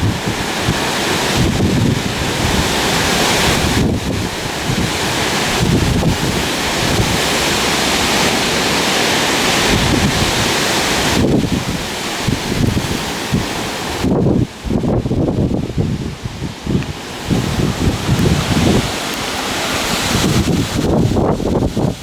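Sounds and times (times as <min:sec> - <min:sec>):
strong gusting wind: 0:00.0 - 0:22.0
wind buffeting microphone: 0:00.0 - 0:22.0.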